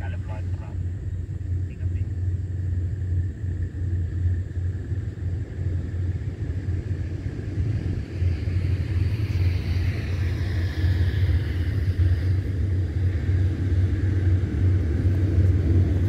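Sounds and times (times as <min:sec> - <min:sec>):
diesel locomotive engine rumbling: 0:00.0 - 0:16.0
high-pitched train noise: 0:00.0 - 0:16.0.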